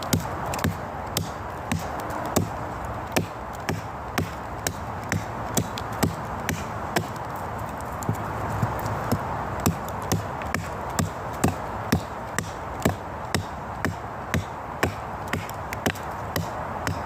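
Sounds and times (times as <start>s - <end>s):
steady background hiss: 0.0s - 17.0s
wood being chopped: 0.0s - 17.0s.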